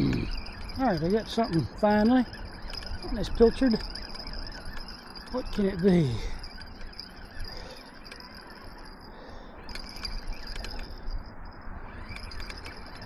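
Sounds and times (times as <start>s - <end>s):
reel clicks: 0.0s - 11.3s, 11.9s - 13.0s
fishing reel gear whir: 0.0s - 13.0s.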